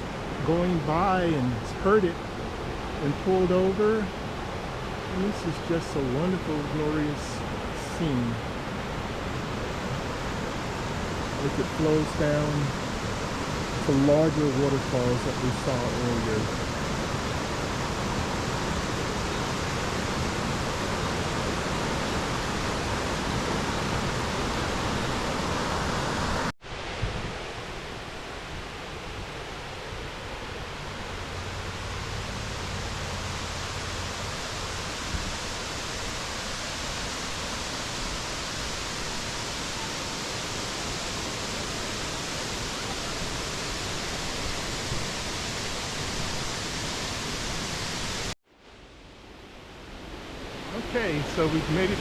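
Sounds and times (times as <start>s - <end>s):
waterfall rushing: 0.0s - 48.4s, 50.1s - 52.0s.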